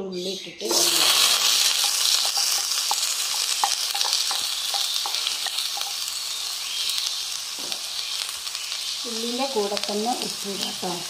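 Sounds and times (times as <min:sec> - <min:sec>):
onions sizzling in hot oil: 0:00.6 - 0:11.0.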